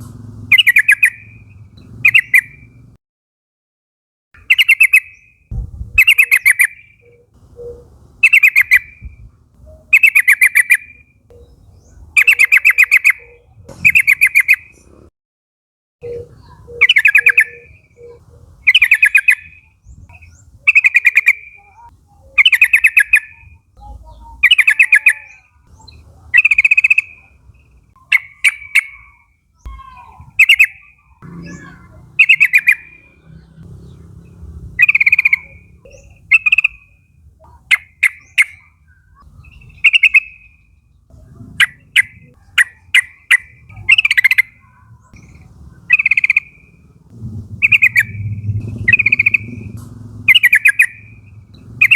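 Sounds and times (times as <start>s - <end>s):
bird calling bubbling chirps: 0.5s - 2.8s, 4.4s - 14.8s, 16.0s - 51.9s.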